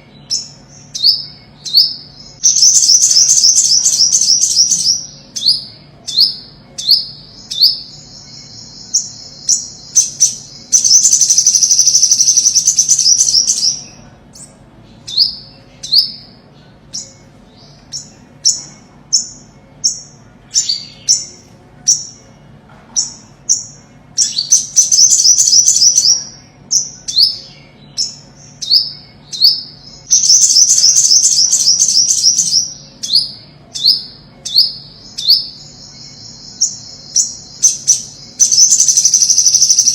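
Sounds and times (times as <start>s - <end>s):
bird fast trill: 0.0s - 22.3s, 23.0s - 39.9s.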